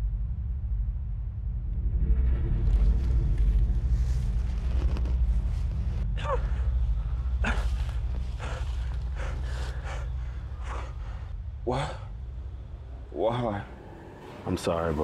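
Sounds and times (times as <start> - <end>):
deep drone of film score: 0.0 - 15.0.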